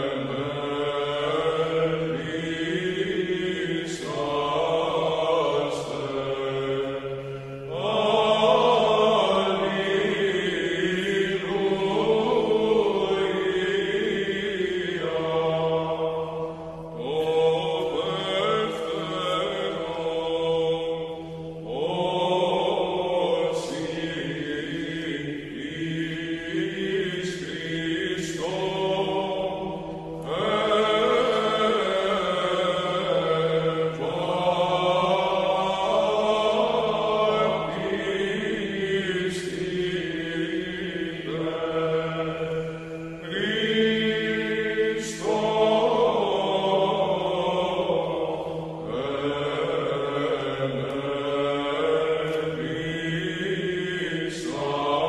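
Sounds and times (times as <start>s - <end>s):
slow meditative chant: 0.0s - 55.0s.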